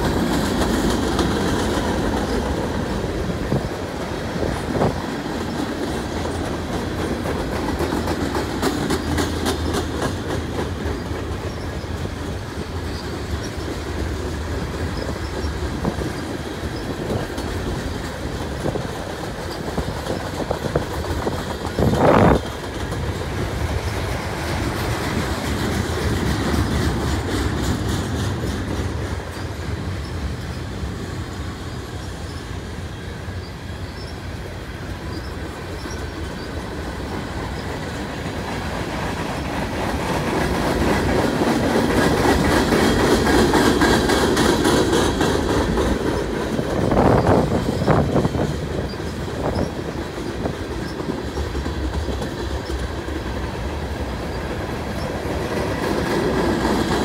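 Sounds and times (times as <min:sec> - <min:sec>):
freight train wheels clacking: 0:00.0 - 0:57.0
train knocks: 0:00.0 - 0:57.0.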